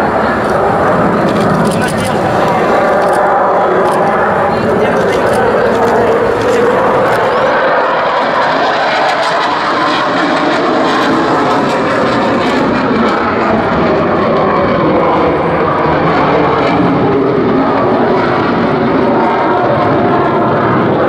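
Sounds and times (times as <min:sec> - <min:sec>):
jet engine roaring with afterburner: 0:00.0 - 0:21.0.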